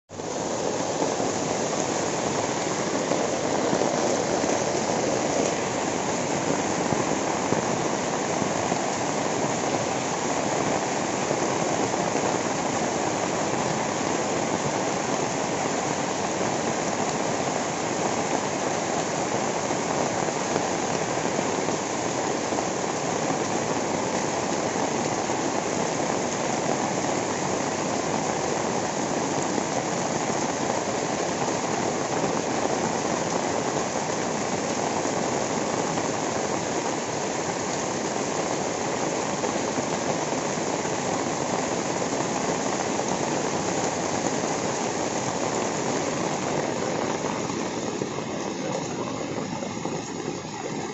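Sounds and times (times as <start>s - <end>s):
heavy rain splashing into water: 0.1s - 50.9s.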